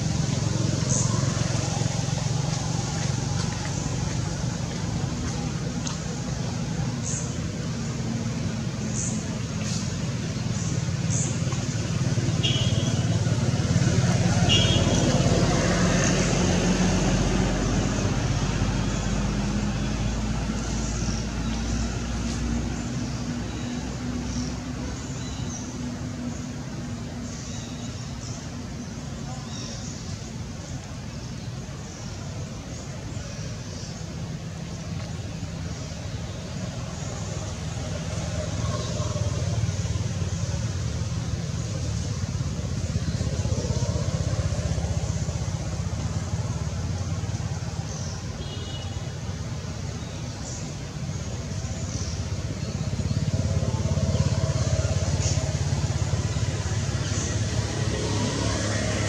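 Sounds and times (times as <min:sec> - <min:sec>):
motor vehicle hum: 0:00.0 - 0:59.0.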